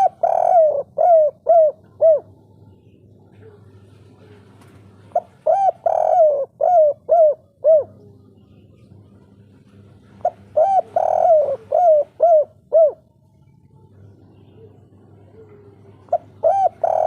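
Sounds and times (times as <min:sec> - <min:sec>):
dove cooing: 0:00.0 - 0:13.2, 0:14.3 - 0:17.0.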